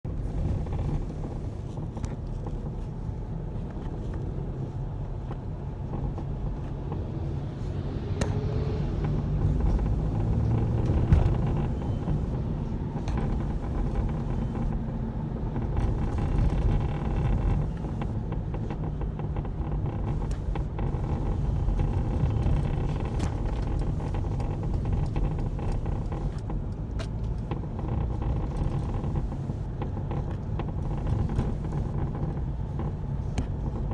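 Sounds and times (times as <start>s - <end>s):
road and engine rumble: 0.0s - 33.9s.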